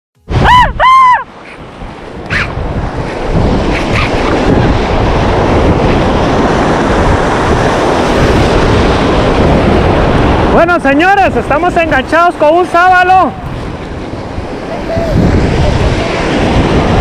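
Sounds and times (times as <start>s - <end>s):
wind buffeting microphone: 0.2s - 17.0s
surf washing: 0.3s - 17.0s.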